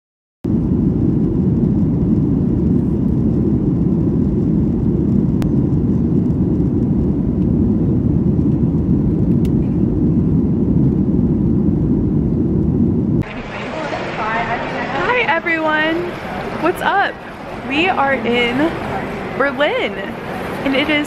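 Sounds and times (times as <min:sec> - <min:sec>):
jet cabin engine and airflow rush: 0:00.5 - 0:21.0.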